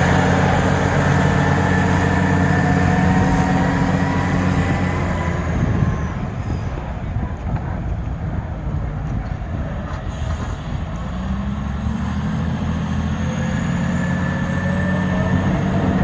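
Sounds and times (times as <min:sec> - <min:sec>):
wheel loader diesel engine running: 0:00.0 - 0:16.0.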